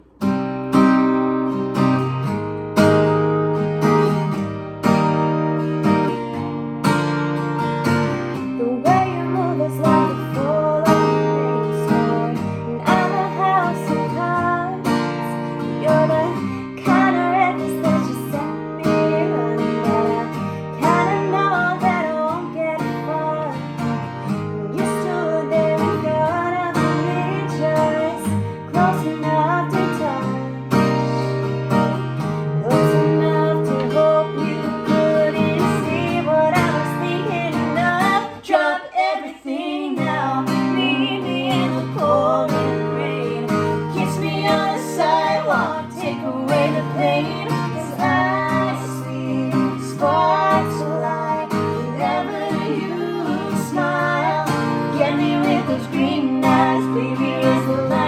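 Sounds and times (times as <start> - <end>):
acoustic guitar strumming: 0.0 - 58.0
person singing: 8.4 - 31.4, 32.4 - 58.0.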